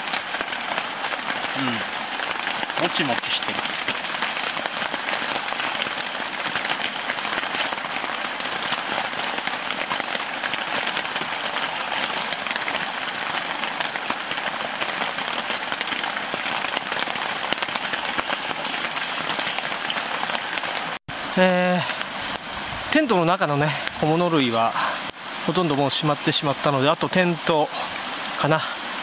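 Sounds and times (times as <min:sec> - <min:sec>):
rain on tent fabric: 0:00.0 - 0:29.0.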